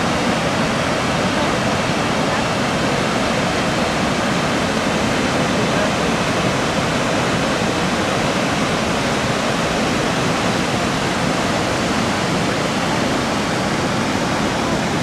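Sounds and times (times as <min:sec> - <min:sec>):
river rushing over rapids: 0:00.0 - 0:15.0.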